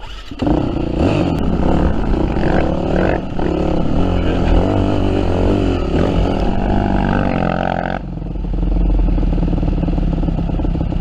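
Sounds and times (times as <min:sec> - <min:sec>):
dirt bike engine running: 0:00.2 - 0:11.0.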